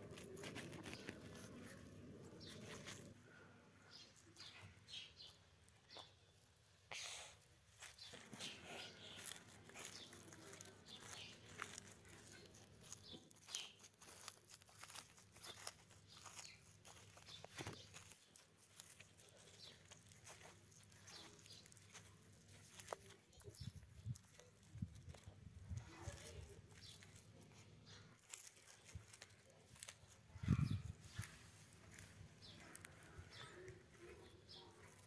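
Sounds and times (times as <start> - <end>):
tortoise crunching leaves: 0.0 - 6.7, 7.6 - 35.0.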